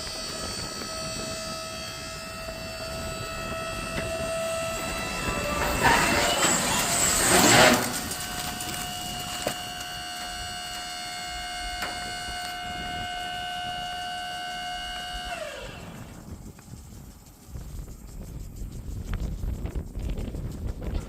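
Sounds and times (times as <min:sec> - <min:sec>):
woodchipper engine whining: 0:00.0 - 0:17.4.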